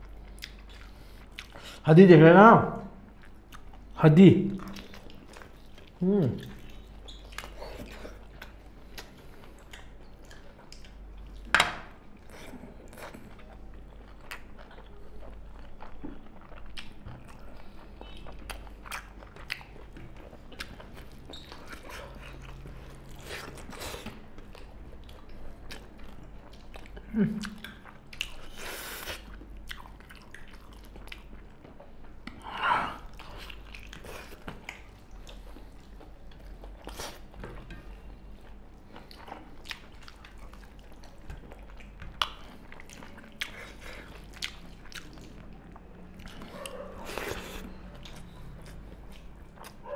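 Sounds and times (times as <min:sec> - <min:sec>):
people chewing and eating: 0:00.0 - 0:01.8, 0:03.0 - 0:49.9.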